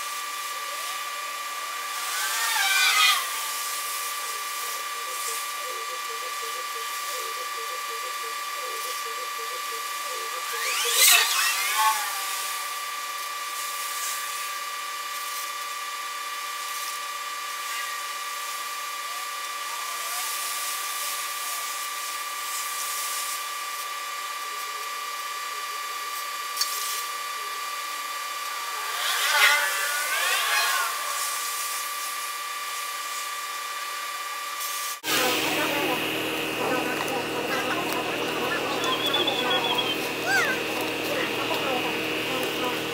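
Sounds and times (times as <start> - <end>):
arc welding hum and hiss: 0.0 - 42.9
whining welding bursts: 0.0 - 42.9.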